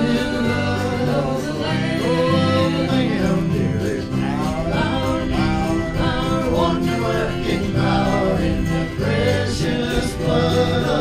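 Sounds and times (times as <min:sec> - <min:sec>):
country gospel band playing: 0:00.0 - 0:11.0.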